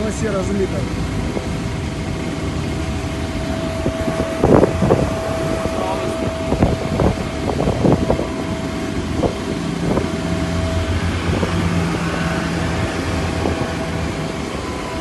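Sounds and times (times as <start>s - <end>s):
engine hum: 0.0s - 15.0s
wind buffeting microphone: 0.0s - 15.0s.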